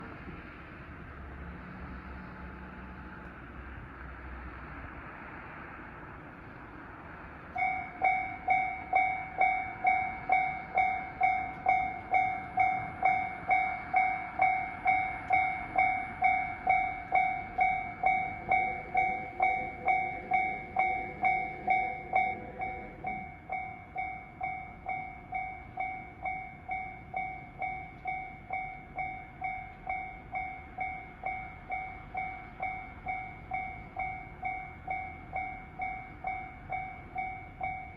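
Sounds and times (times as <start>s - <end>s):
level crossing warning bell: 7.5s - 37.9s.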